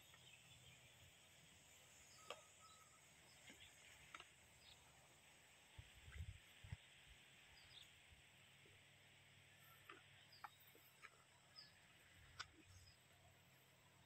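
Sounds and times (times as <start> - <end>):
distant bird chirps: 0.0 - 5.2, 6.1 - 8.0, 9.4 - 14.0.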